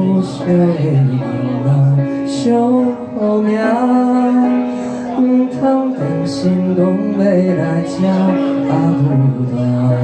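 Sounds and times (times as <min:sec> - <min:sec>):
electronic keyboard chords: 0:00.0 - 0:10.0
man singing a slow ballad: 0:00.0 - 0:10.0.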